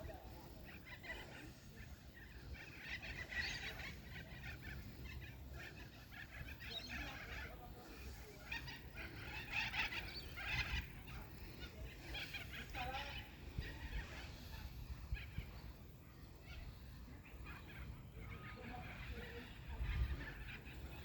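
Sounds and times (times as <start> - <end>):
birds chattering: 0.0 - 21.0.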